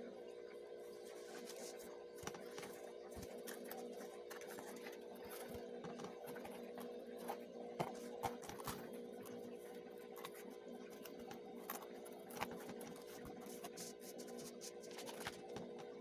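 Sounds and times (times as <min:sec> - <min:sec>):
paperboard rustling and crackling: 0:01.0 - 0:16.0.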